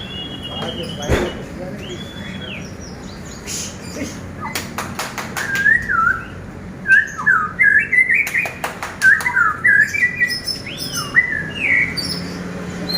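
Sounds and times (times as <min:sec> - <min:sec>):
songbird whistling: 0:00.0 - 0:03.8, 0:05.4 - 0:12.9.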